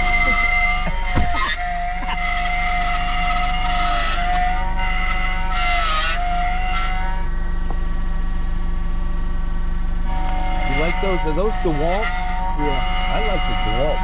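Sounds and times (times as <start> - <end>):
constant low hum: 0.0 - 14.0
electric motor whining: 0.0 - 14.0.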